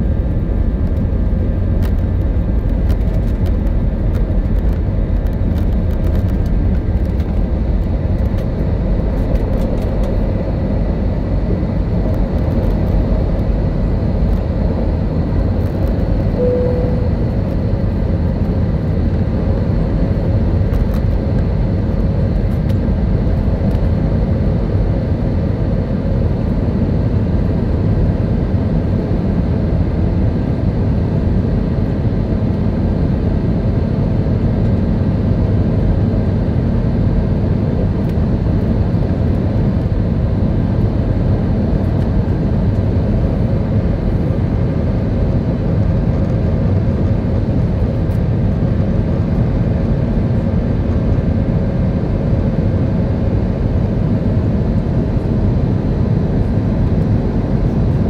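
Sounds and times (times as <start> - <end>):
faint constant hum: 0.0 - 58.0
jet engines low rumble: 0.0 - 58.0.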